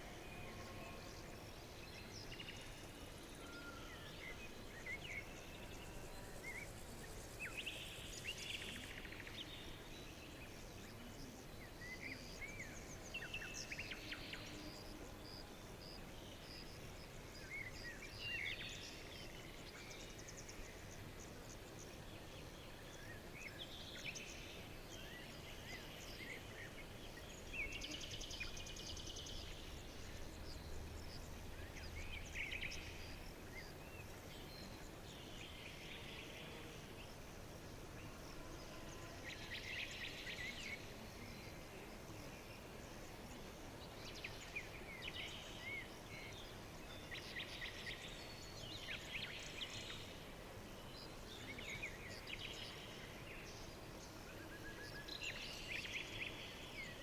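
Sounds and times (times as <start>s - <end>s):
faint background hiss: 0.0s - 57.0s
songbirds chirping: 0.0s - 57.0s.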